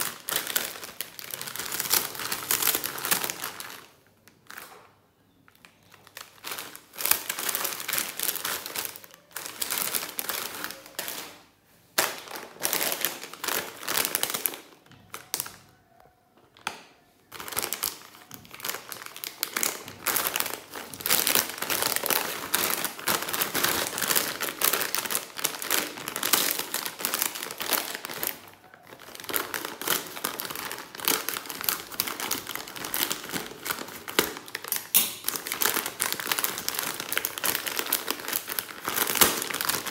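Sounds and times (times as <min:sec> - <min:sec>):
plastic chip packets crinkling: 0:00.0 - 0:15.8, 0:16.7 - 0:39.9.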